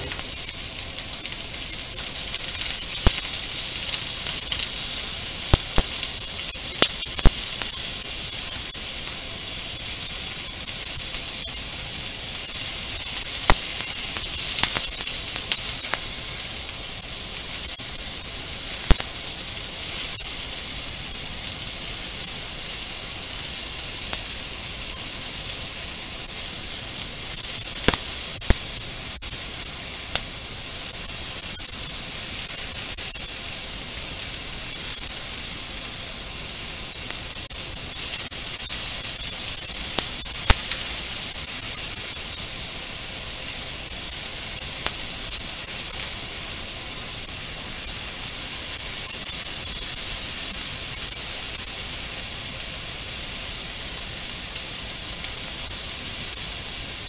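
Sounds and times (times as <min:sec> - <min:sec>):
meat and onion sizzling in a pan: 0:00.0 - 0:57.0.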